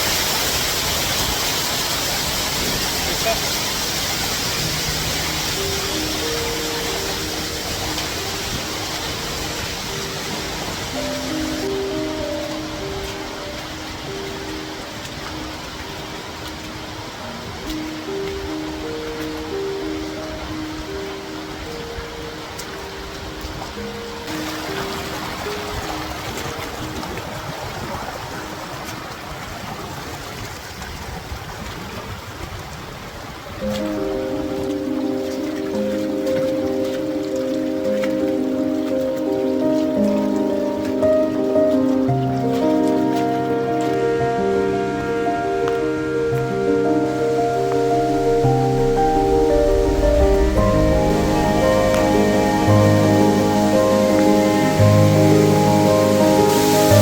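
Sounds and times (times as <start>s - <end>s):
falling water rushing: 0.0s - 57.0s
soft music of held notes: 2.6s - 29.2s, 33.5s - 57.0s.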